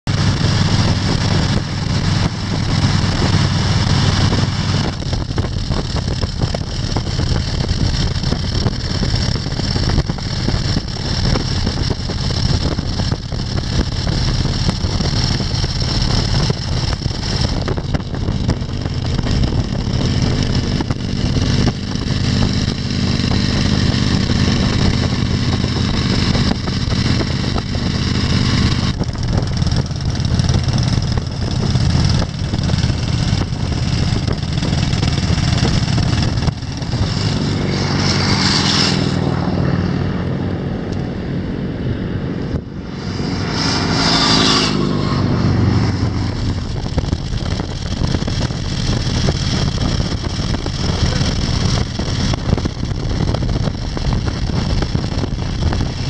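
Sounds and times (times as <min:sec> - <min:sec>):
engine drone: 0:00.0 - 0:56.0
wind and road noise: 0:00.0 - 0:56.0.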